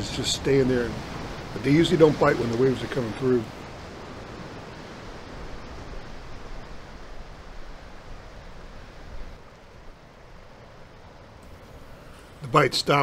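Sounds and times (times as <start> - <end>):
ocean surf over rocks: 0.0 - 13.0.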